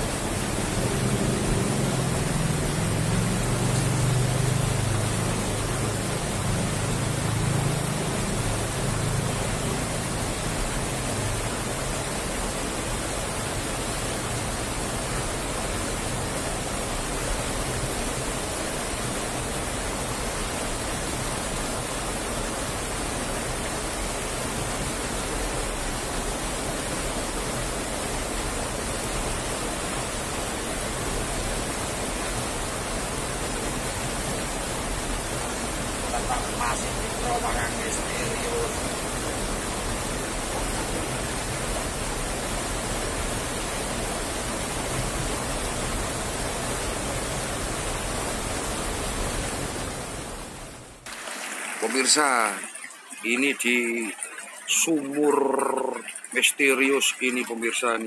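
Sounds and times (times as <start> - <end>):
turbulent water rushing: 0.0 - 58.0.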